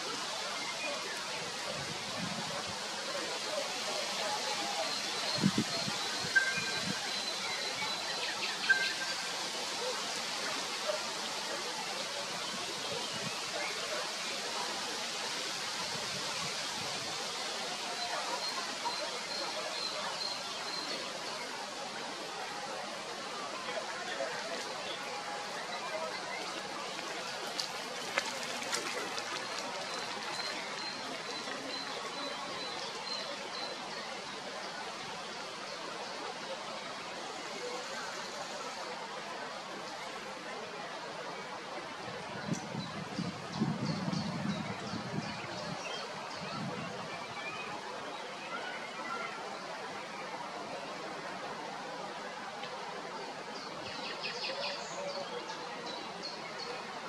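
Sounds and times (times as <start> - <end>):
high outdoor hiss: 0.0 - 57.0.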